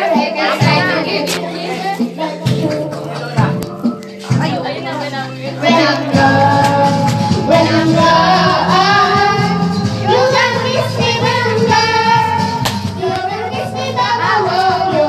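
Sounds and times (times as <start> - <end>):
backing music: 0.0 - 15.0
girls singing karaoke: 0.0 - 15.0.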